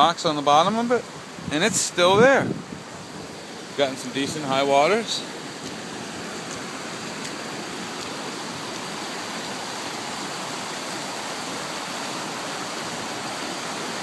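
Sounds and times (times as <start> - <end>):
water rushing at a dam: 0.0 - 14.0.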